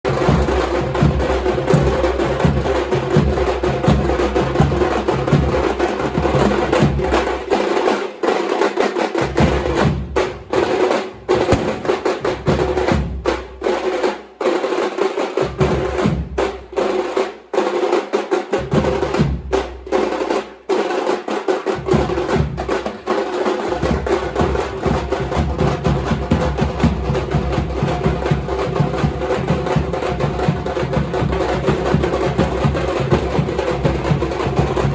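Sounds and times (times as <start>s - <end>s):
drums played fast: 0.0s - 34.9s.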